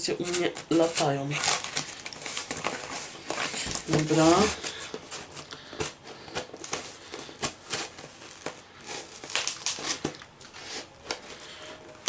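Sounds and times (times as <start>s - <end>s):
tape crinkling and crackling: 0.0s - 12.0s.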